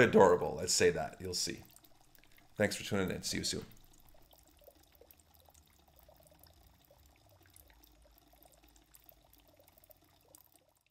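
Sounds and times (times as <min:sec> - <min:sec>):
low steady hum: 0:00.0 - 0:10.9
water trickling and splashing: 0:00.0 - 0:10.9.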